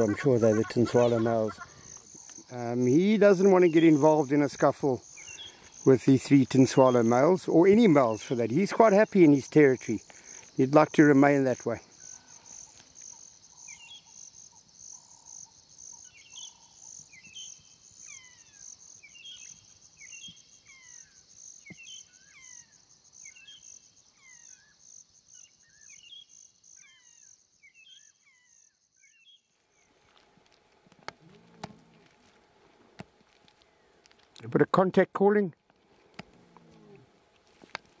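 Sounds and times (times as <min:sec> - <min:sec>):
insect pulsing chirr: 0:00.0 - 0:32.4.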